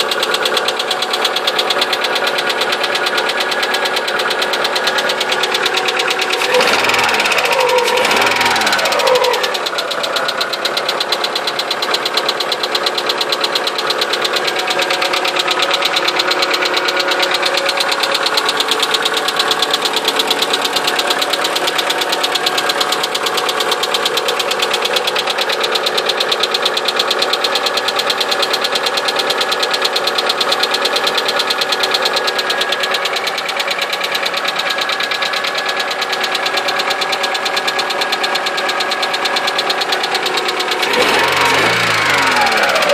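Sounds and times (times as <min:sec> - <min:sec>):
car engine knocking and idling: 0:00.0 - 0:42.9.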